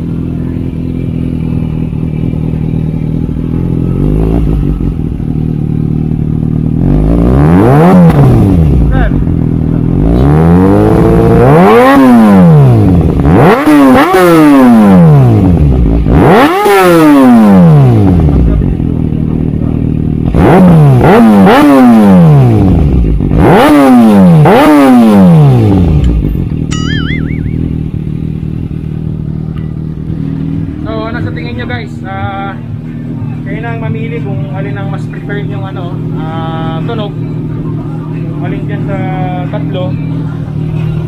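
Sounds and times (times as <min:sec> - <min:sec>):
motorcycle engine idling: 0:00.0 - 0:41.0
motorcycle engine throttle blips: 0:00.0 - 0:41.0.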